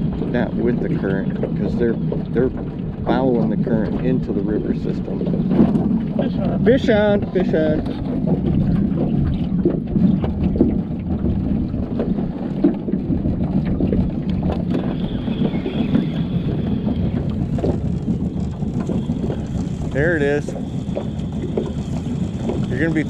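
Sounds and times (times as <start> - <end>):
boat motor running: 0.0 - 23.0
wind buffeting microphone: 0.0 - 23.0.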